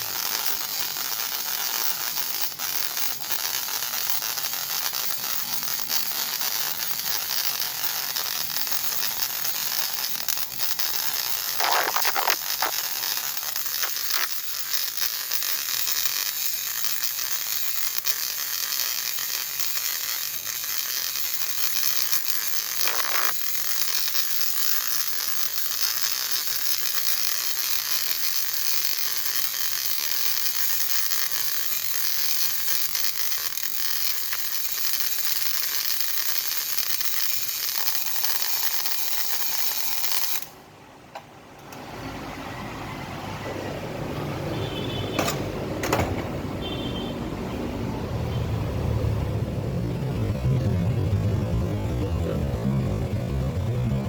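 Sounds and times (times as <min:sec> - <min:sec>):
welding arc crackling: 0:00.0 - 0:40.6, 0:48.0 - 0:54.0.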